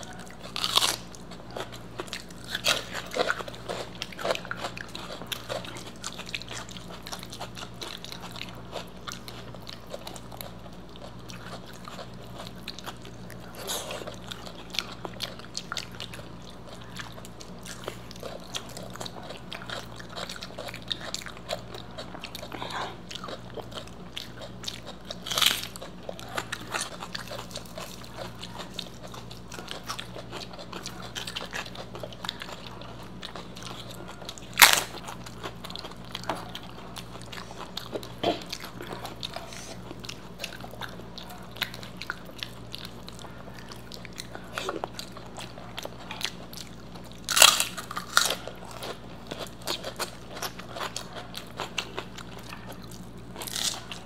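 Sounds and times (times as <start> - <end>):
chewing and mouth sounds: 0.0 - 54.0
crunches of crisp snacks: 0.0 - 54.0
low steady hum: 0.0 - 54.0.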